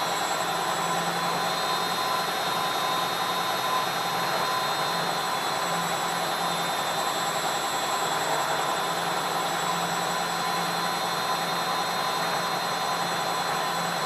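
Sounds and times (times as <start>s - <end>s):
washing machine whirring: 0.0s - 14.0s.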